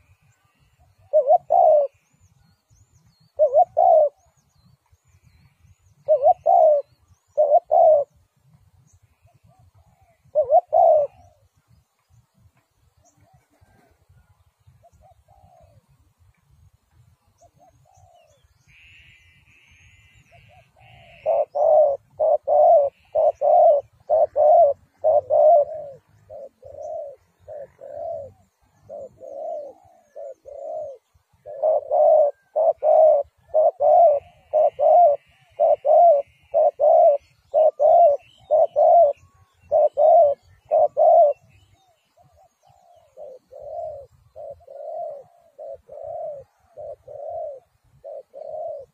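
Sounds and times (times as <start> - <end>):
dove cooing: 0.0 - 11.8, 12.8 - 16.0, 17.4 - 48.9.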